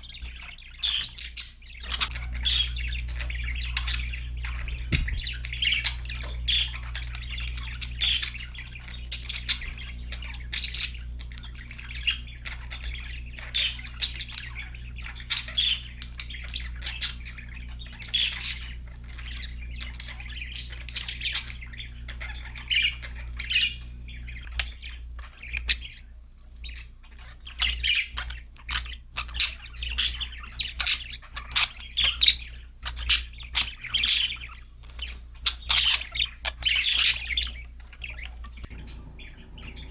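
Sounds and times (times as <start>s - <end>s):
steady low hum: 0.0s - 26.8s, 34.1s - 39.9s
budgerigars chirping and squawking: 0.0s - 39.9s.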